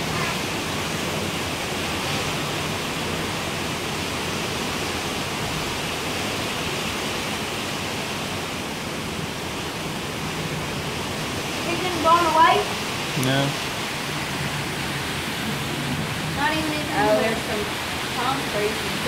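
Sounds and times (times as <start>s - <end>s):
strong storm wind: 0.0s - 19.0s.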